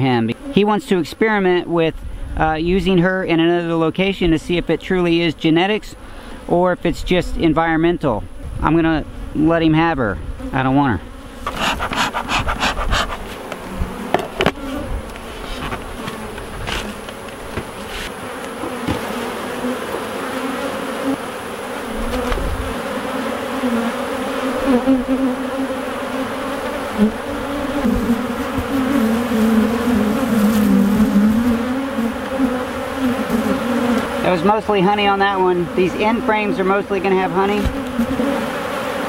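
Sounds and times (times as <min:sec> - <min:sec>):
honey bees buzzing: 0:00.0 - 0:01.7, 0:02.6 - 0:39.0.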